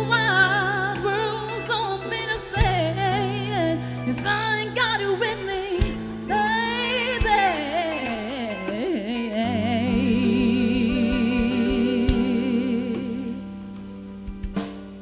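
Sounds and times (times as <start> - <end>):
woman singing with vibrato: 0.0 - 13.6
sustained band chords: 0.0 - 15.0.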